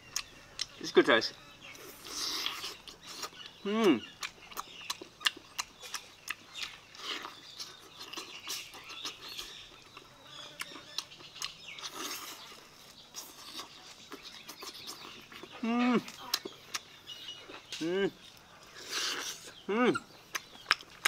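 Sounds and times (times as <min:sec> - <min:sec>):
wet chewing and smacking: 0:00.0 - 0:00.8, 0:01.6 - 0:21.0.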